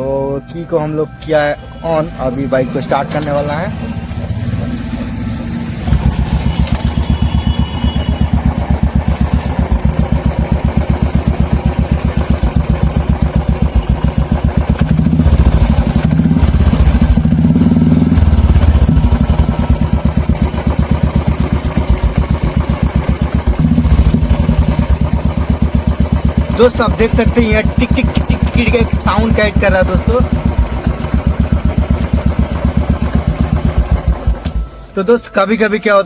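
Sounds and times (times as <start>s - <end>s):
engine ticking: 0.0s - 36.0s
motorcycle engine idling: 2.2s - 34.9s.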